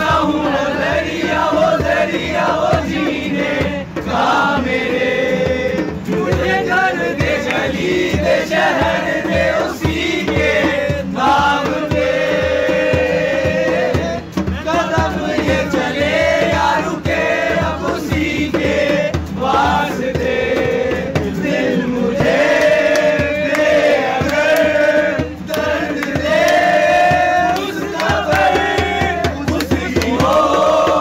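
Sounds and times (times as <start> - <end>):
men singing in chorus: 0.0 - 31.0
steady beat: 0.0 - 31.0.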